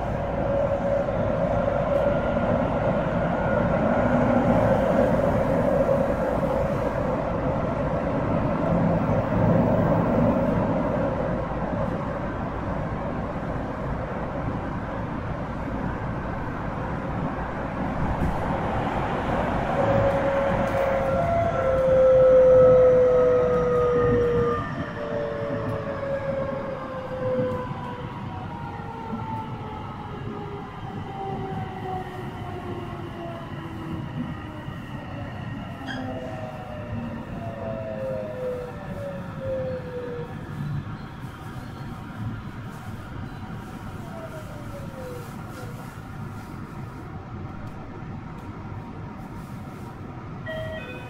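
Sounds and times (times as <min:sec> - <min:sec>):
train wheel and rail rumble: 0:00.0 - 0:51.0.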